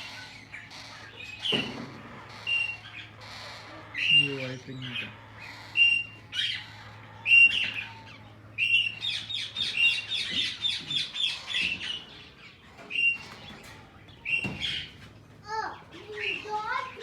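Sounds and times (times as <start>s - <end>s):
parakeets screeching: 0.0s - 17.0s.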